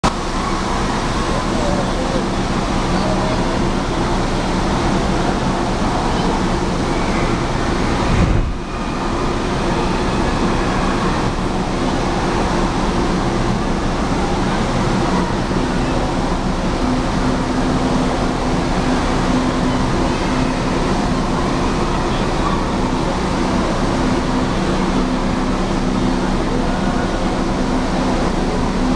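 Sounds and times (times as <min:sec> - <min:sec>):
babble of many voices: 0:00.0 - 0:28.9.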